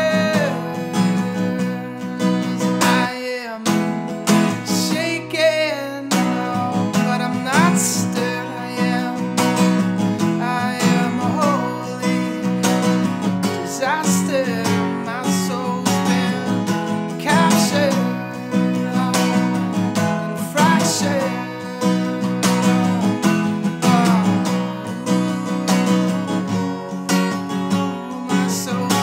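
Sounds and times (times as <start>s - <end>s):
acoustic guitar strumming: 0.0s - 29.0s
sliding melody line: 4.3s - 29.0s.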